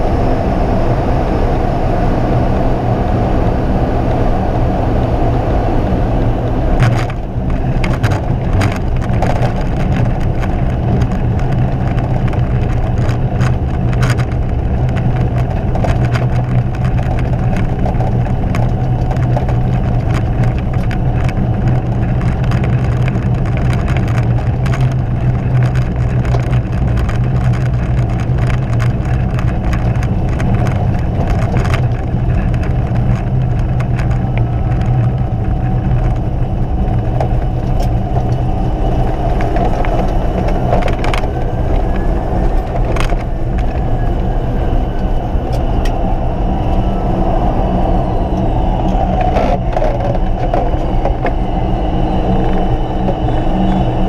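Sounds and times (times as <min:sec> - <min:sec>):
turboprop engine droning: 0:00.0 - 0:54.0
small clicks and rattles: 0:06.8 - 0:46.0, 0:46.7 - 0:54.0.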